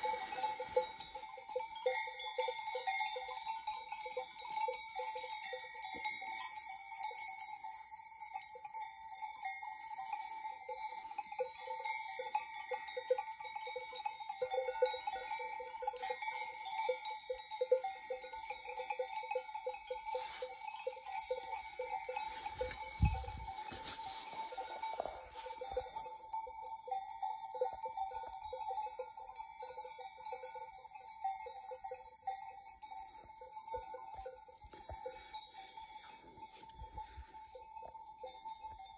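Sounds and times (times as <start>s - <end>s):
sheep bells clanking: 0.0s - 38.9s.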